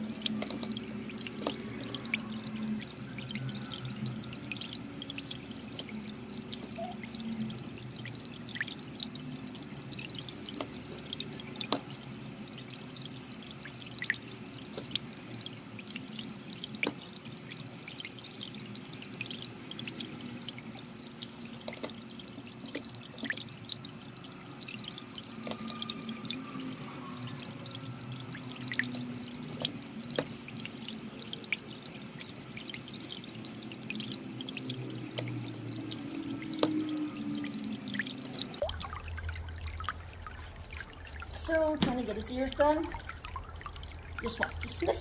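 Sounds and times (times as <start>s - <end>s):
soft calm background music: 0.0s - 45.0s.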